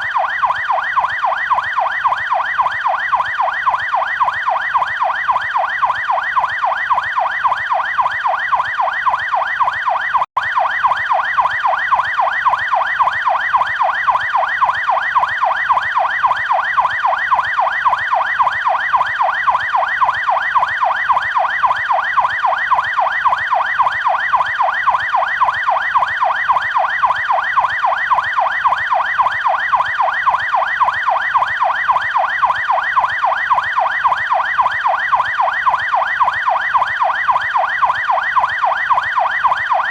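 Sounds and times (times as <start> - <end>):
police siren yelp: 0.0 - 39.9.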